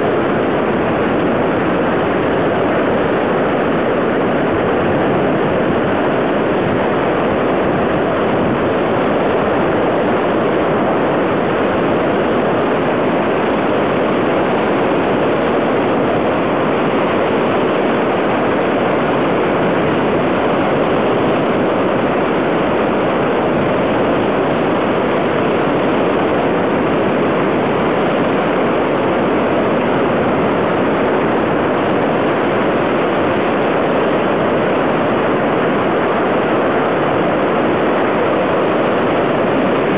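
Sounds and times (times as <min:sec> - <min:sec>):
flood water roaring through gorge: 0:00.0 - 0:39.9.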